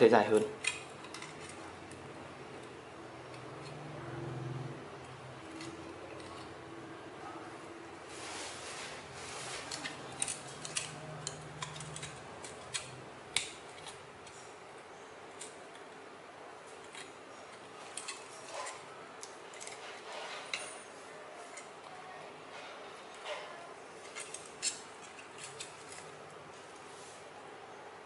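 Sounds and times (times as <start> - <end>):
aluminium strips clicking and crinkling: 0.0 - 26.8.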